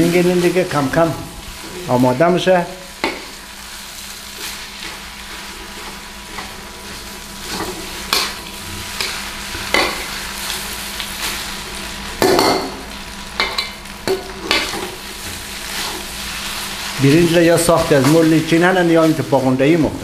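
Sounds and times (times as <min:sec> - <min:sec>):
rice sizzling in a pan: 0:00.0 - 0:20.0.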